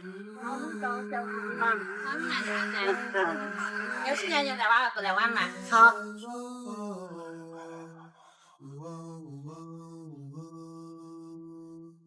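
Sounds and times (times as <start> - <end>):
low male voice chanting: 0.0 - 4.4, 5.3 - 12.0.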